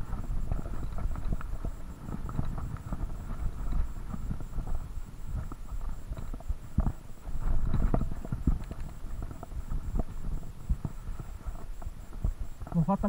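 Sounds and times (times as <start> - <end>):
tyres rumbling on dirt trail: 0.0 - 13.0.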